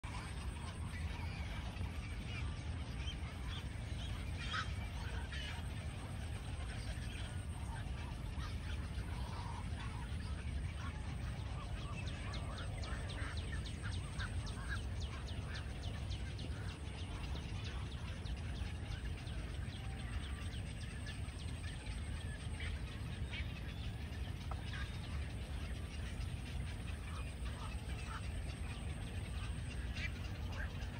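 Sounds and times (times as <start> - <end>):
waterbirds calling: 0.0 - 30.9
rapid clicking chatter: 0.1 - 30.9.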